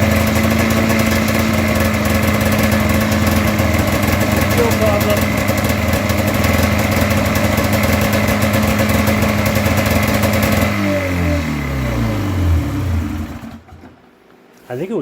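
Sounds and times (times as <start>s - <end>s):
snowmobile engine running and stalling: 0.0s - 13.7s.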